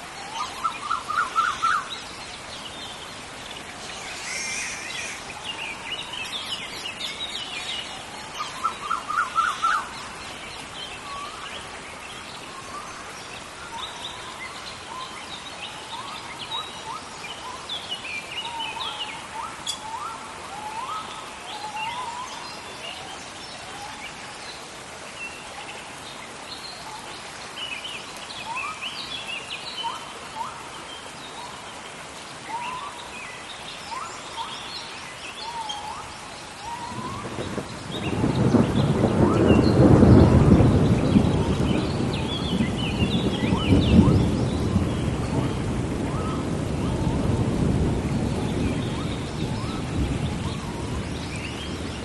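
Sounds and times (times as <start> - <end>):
rain hissing: 0.0 - 52.0.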